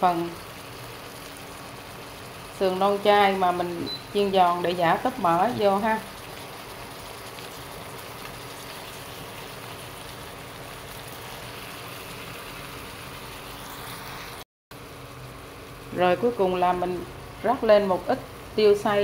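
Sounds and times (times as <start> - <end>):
sauce bubbling in a pot: 0.1 - 15.9.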